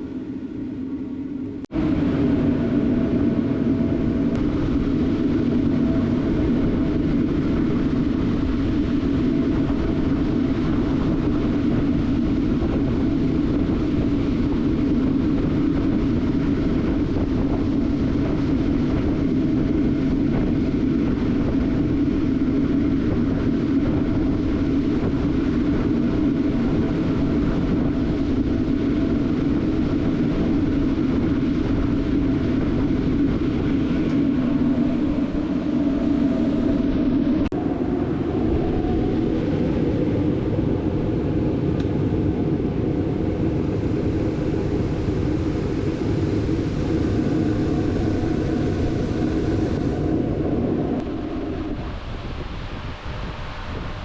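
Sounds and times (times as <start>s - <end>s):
forge burners roaring: 0.0s - 54.0s.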